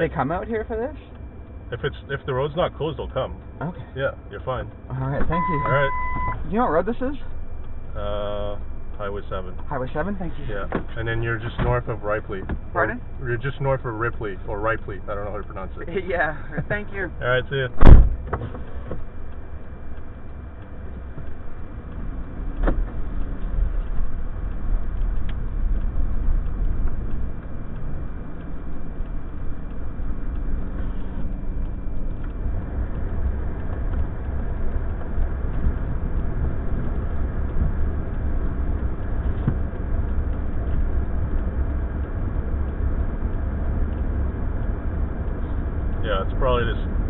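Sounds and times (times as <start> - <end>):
car engine rumbling: 0.0 - 47.0.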